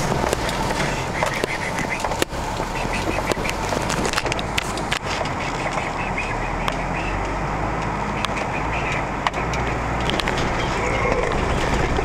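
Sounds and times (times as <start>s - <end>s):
vehicle knocks and creaks: 0.0s - 5.9s, 6.6s - 12.0s
vehicle rumbling over dirt trail: 0.0s - 12.0s.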